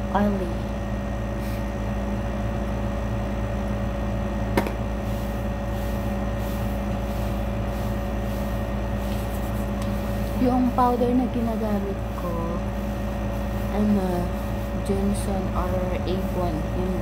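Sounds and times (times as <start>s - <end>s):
appliance humming: 0.0s - 17.0s.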